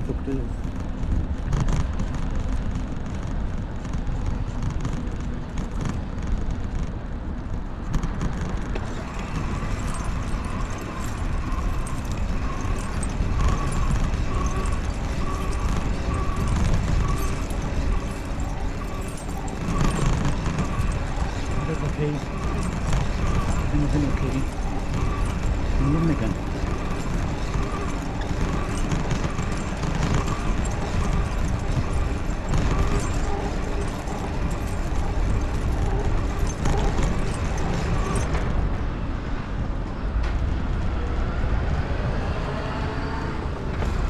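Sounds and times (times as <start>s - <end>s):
faint steady whine: 0.0s - 38.8s
wind rumbling on microphone: 0.0s - 44.0s.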